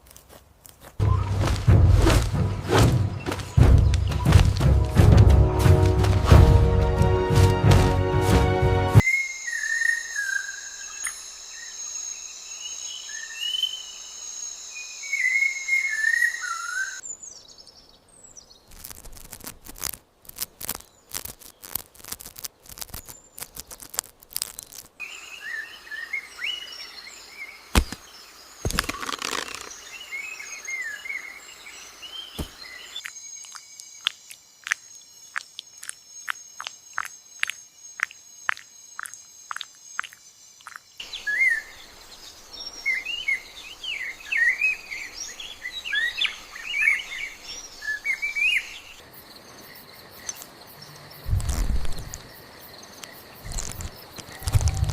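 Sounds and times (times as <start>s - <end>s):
insects trilling: 9.0s - 17.0s, 18.4s - 54.9s.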